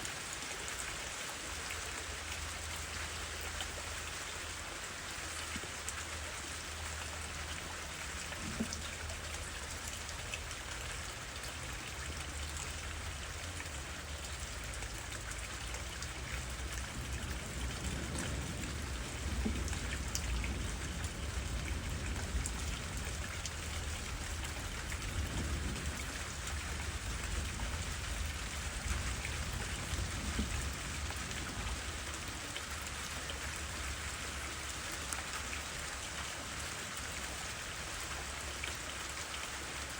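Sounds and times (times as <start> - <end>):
low rumble of wind: 0.0 - 39.9
rain pattering through trees: 0.0 - 39.9.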